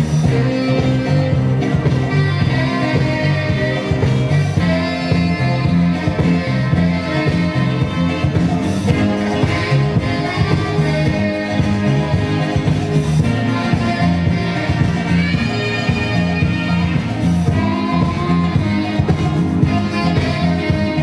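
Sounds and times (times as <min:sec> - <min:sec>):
loud dance music: 0:00.0 - 0:21.0.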